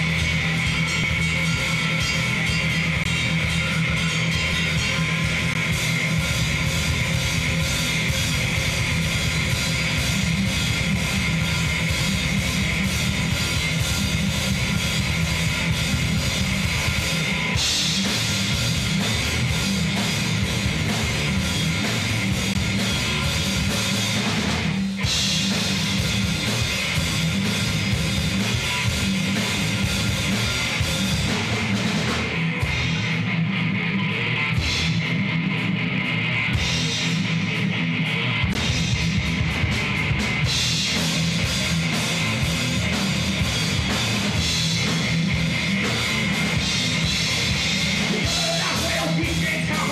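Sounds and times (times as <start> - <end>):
heavy metal band playing: 0.0 - 49.9.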